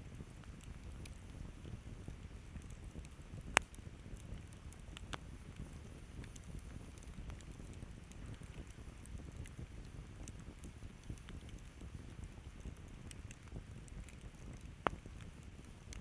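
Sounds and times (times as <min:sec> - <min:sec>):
campfire burning and crackling: 0:00.0 - 0:16.0.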